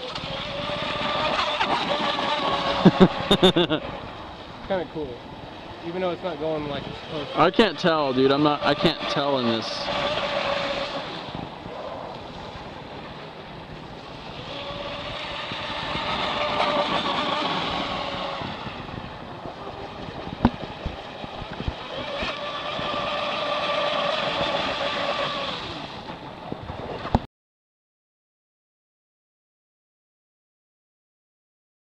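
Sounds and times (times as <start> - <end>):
rc boat motor whining: 0.0 - 27.2.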